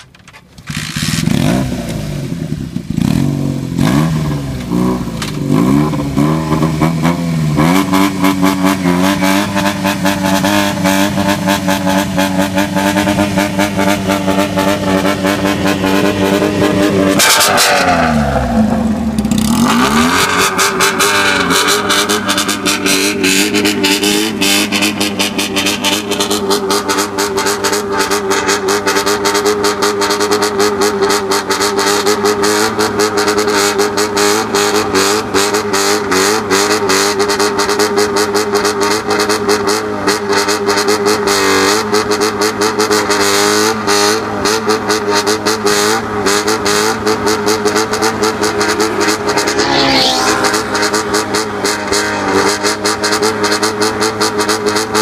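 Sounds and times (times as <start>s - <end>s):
motorcycle engine revving: 0.6s - 55.0s.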